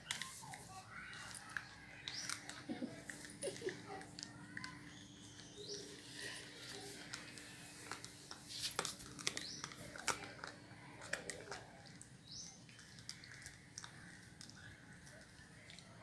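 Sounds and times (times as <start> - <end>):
puppy chewing plastic toothbrush: 0.0 - 16.0.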